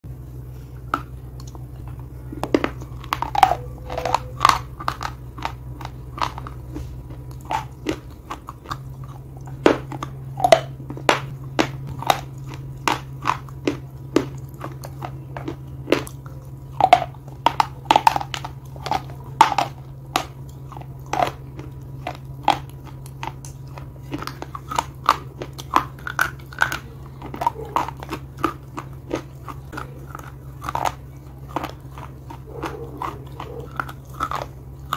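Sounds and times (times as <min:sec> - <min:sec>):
low hum: 0:00.0 - 0:34.9
chewing hard slate crunches: 0:00.6 - 0:34.9.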